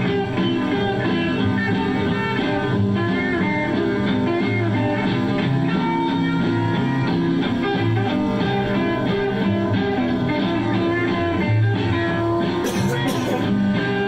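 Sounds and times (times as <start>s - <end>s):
rockabilly guitar music from record: 0.0s - 14.0s.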